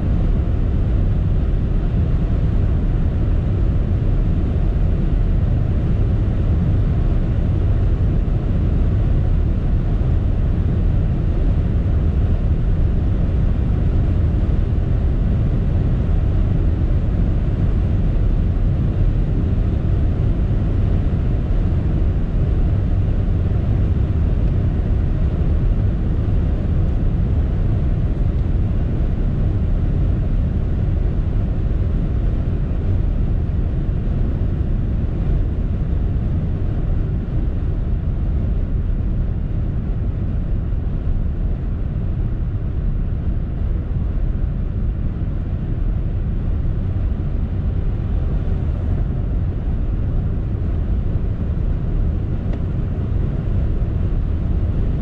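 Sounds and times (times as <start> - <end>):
car wind and tyre noise: 0.0 - 55.0.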